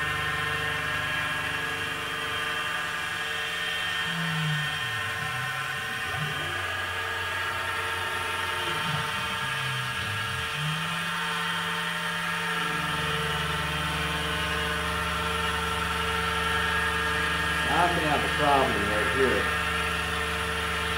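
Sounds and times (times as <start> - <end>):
axis motors whirring: 0.0 - 20.9
milling machine spindle whine: 0.0 - 20.9.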